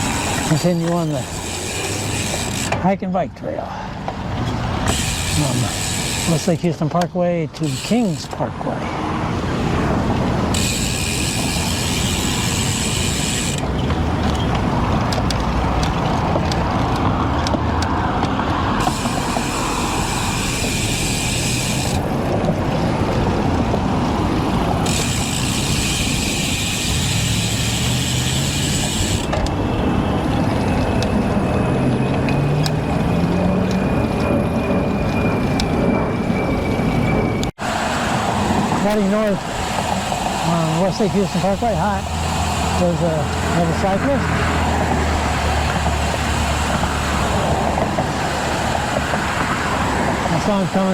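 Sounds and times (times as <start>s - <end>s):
bike freehub buzzing: 0.0s - 2.8s, 4.2s - 6.7s, 7.6s - 36.7s, 37.6s - 50.9s
passing motor vehicle: 0.0s - 2.8s, 3.7s - 6.6s, 7.9s - 50.9s
wind rush on microphone: 8.6s - 40.7s, 41.9s - 50.7s.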